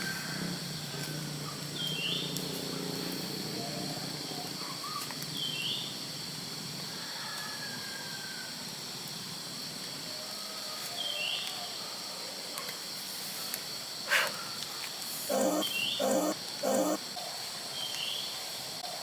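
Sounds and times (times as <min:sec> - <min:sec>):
insects droning: 0:00.0 - 0:18.7.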